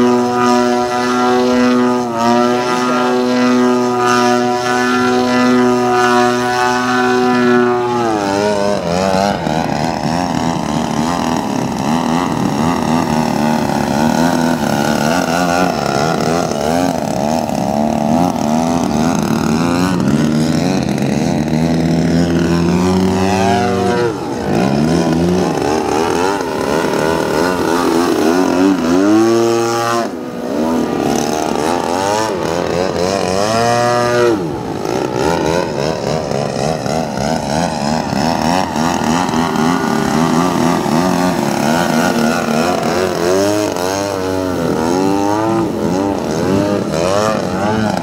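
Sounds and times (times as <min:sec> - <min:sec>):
model plane engine and propeller: 0:00.0 - 0:48.0.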